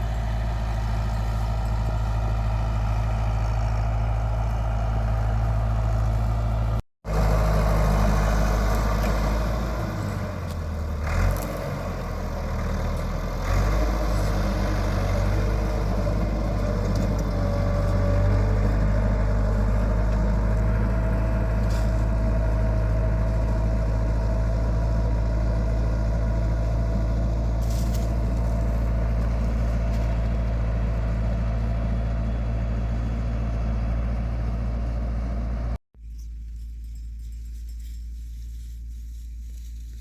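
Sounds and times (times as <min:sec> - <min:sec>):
engine rumbling: 0:00.0 - 0:40.0.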